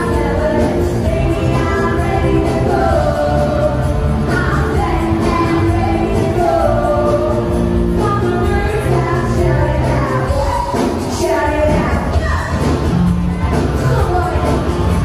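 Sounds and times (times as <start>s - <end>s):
live band with singers: 0.0s - 15.0s.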